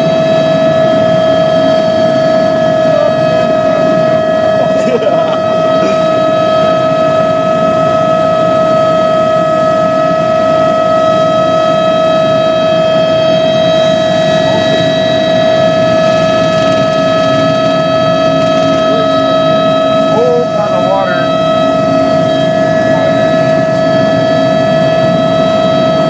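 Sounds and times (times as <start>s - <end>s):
high turbine whine: 0.0s - 26.0s
rushing engine and rotor noise: 0.0s - 26.0s.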